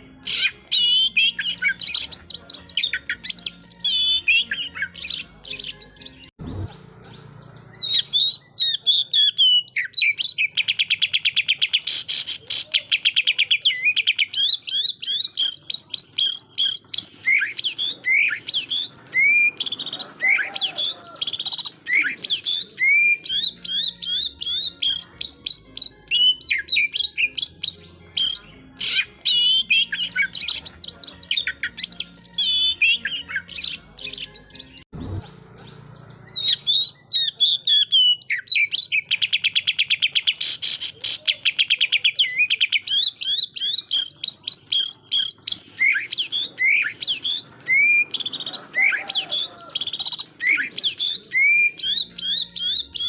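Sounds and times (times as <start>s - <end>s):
songbird singing loudly: 0.0s - 53.0s.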